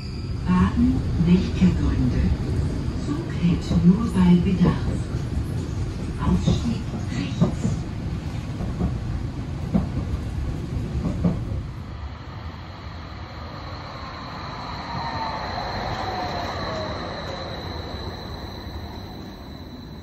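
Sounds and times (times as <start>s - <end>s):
rail car rumbling on track: 0.0s - 20.0s
tram passing with electric whine: 0.0s - 20.0s.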